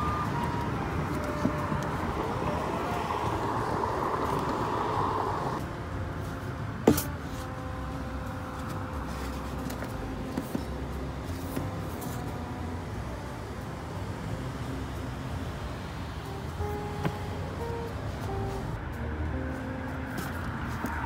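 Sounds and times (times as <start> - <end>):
outdoor rumble: 0.0 - 21.0.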